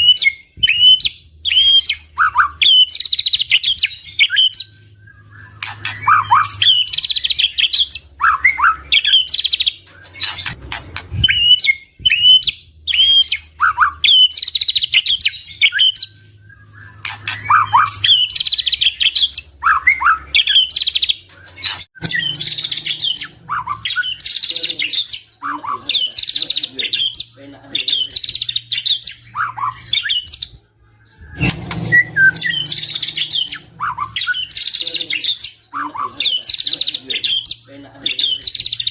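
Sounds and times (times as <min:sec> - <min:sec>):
bird singing whistled phrases: 0:00.0 - 0:10.6, 0:11.2 - 0:25.8, 0:28.0 - 0:37.7.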